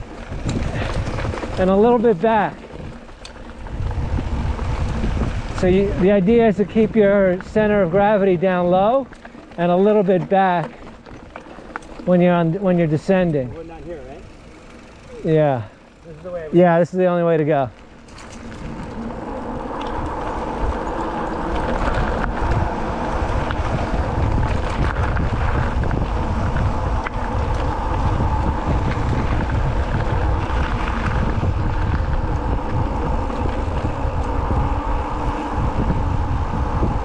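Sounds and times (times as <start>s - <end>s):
wind buffeting microphone: 0.0s - 16.4s, 17.7s - 37.0s
tyres rumbling over rough trail: 0.0s - 37.0s.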